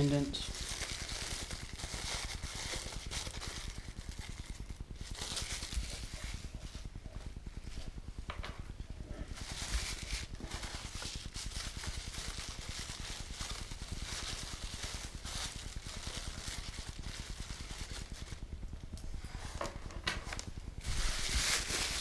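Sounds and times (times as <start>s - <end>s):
packaging rustling and crinkling: 0.0s - 8.0s, 9.1s - 22.0s.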